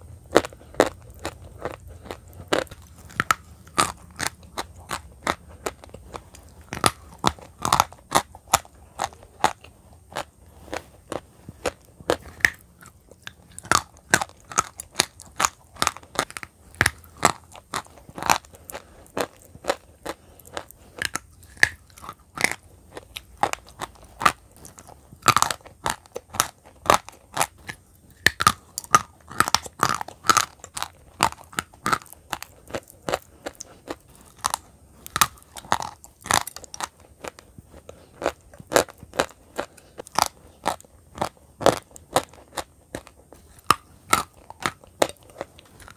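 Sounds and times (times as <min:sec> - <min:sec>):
chewing chalk crunches: 0:00.3 - 0:45.9.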